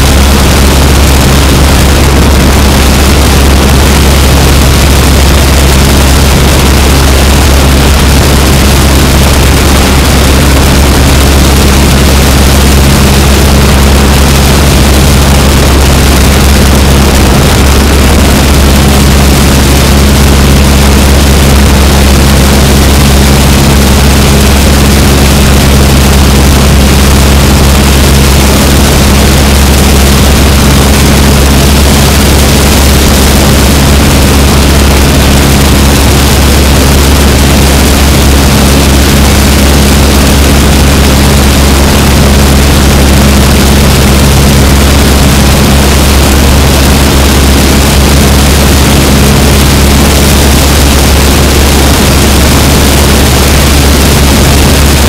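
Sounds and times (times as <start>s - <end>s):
propeller plane engine drone: 0.0s - 55.0s
wind noise on microphone: 0.0s - 55.0s.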